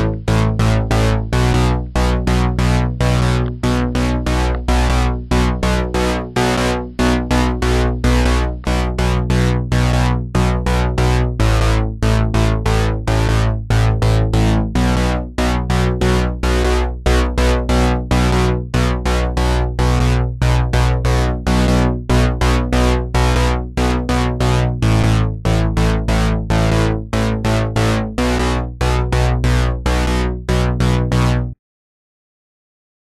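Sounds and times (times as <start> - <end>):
steady bass line: 0.0 - 31.6
synthesizer note run: 0.0 - 31.6.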